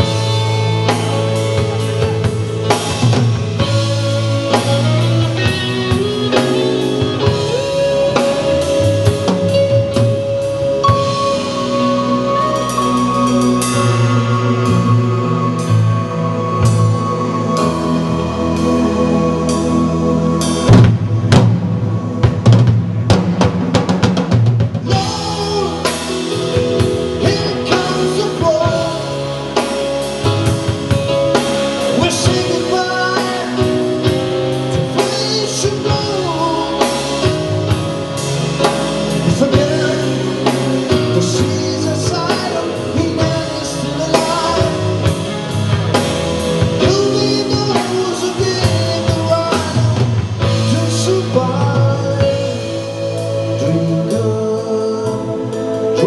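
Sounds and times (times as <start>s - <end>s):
man singing: 0.0s - 20.7s, 24.8s - 56.0s
live rock band playing: 0.0s - 56.0s.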